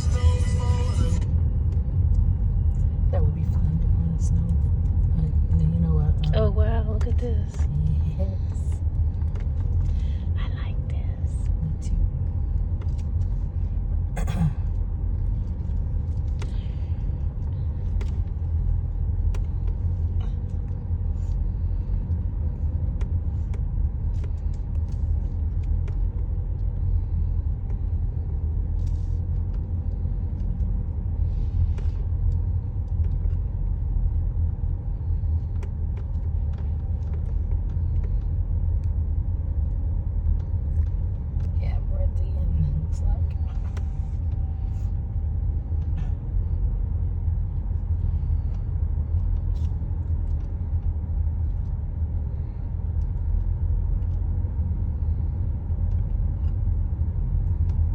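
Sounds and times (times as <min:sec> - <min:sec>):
car engine and tyres rumbling: 0:00.0 - 0:57.9.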